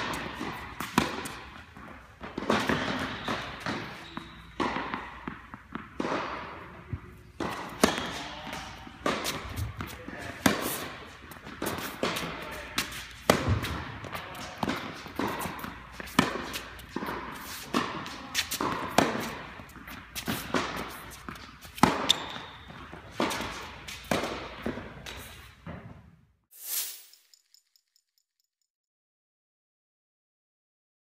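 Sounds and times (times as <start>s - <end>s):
tennis ball hits and bounces: 0.0s - 26.1s.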